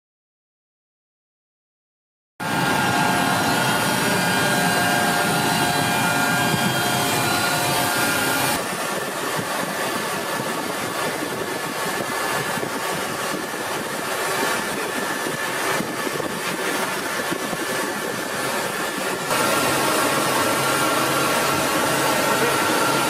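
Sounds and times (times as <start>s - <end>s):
dull engine noise in cockpit: 2.4s - 23.0s
jet engines whining: 2.4s - 23.0s.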